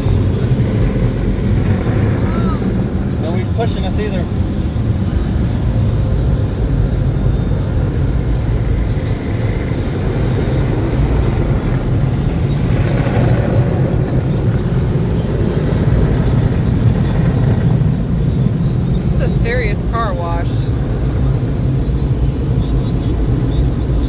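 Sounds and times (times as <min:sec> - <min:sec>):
car wash machinery rumbling: 0:00.0 - 0:24.0.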